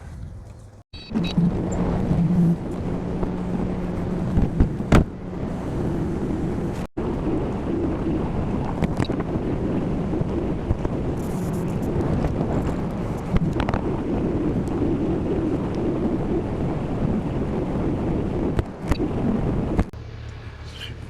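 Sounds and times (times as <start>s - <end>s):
wind buffeting microphone: 0.0s - 20.0s
vehicle engine running: 1.0s - 21.0s.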